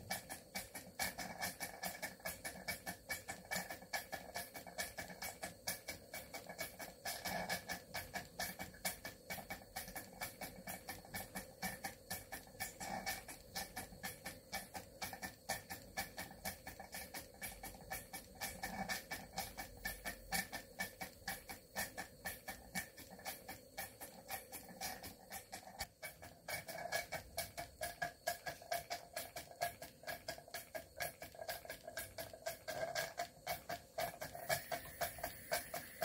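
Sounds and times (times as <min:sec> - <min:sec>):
steam engine chuffing: 0:00.0 - 0:36.0.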